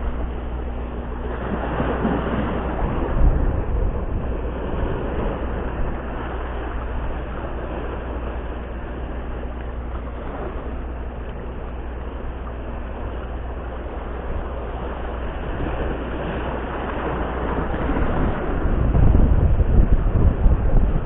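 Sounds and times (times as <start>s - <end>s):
waves washing over rocks: 0.0s - 21.0s
wind buffeting microphone: 0.0s - 21.0s.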